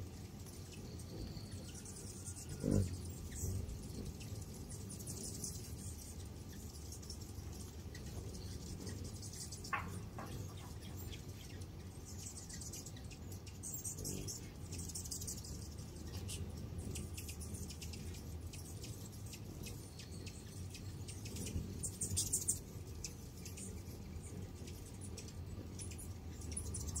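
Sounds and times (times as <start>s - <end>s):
hummingbird wings humming: 0.0s - 27.0s.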